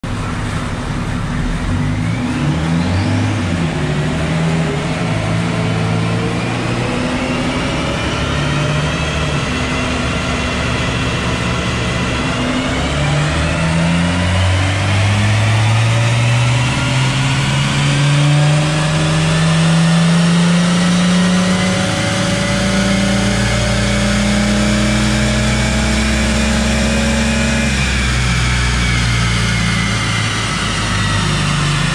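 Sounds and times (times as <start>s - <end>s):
diesel engine revving: 0.0s - 31.9s
high whine: 0.0s - 31.9s.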